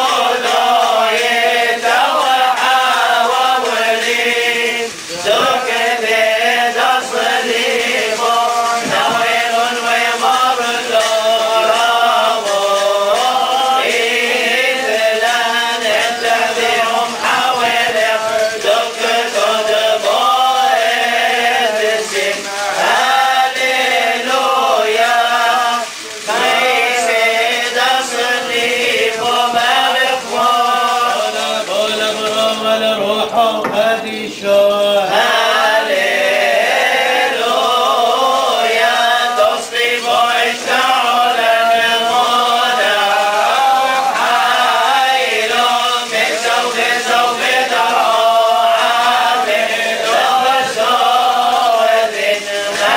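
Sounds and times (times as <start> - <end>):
men chanting a hymn: 0.0 - 52.9.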